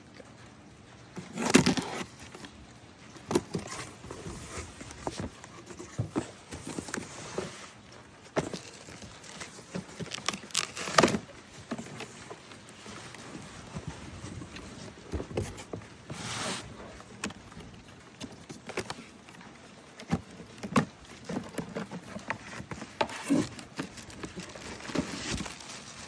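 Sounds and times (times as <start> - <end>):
packaging rustling: 1.2 - 2.6, 3.2 - 26.0.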